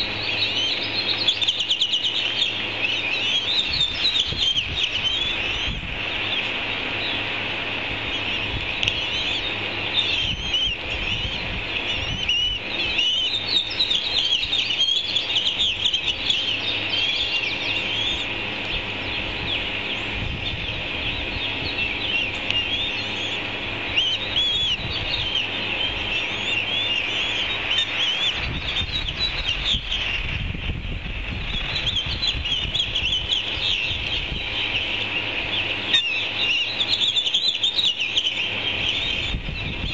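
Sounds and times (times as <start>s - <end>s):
ospreys chirping: 0.0s - 39.9s.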